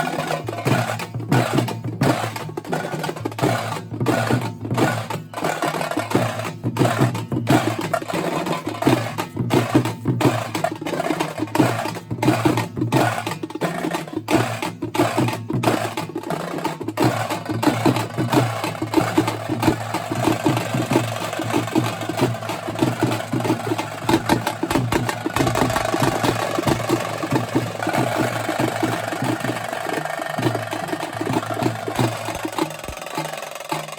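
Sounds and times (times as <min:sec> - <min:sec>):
folk drums beaten with sticks: 0:00.0 - 0:33.9.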